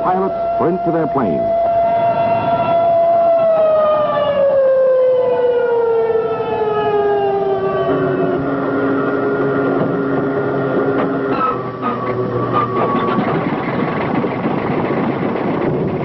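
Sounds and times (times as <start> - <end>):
air-raid siren wailing: 0.0 - 16.0
low drone: 0.0 - 16.0.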